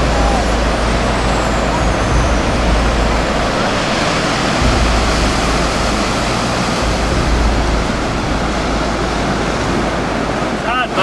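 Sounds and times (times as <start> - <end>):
surf breaking in shallows: 0.0 - 11.0
wind buffeting microphone: 0.0 - 11.0.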